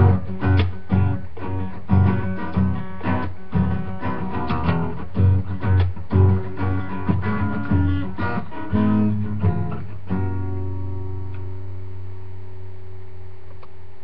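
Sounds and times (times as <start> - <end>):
guitar strummed: 0.0 - 12.8
steady low hum: 0.0 - 14.0.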